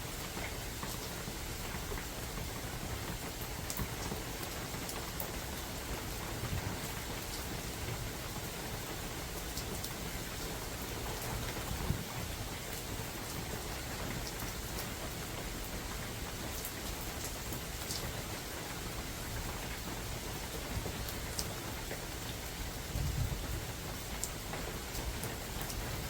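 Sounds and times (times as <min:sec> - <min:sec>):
rain falling in forest: 0:00.0 - 0:26.0
raindrops ticking close by: 0:00.0 - 0:26.0.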